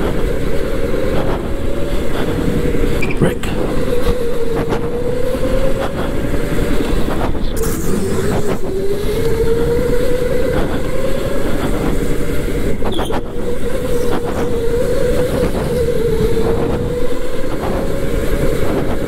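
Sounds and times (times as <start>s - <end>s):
electric go-kart motor whining: 0.0s - 19.0s
steady rushing noise: 0.0s - 19.0s.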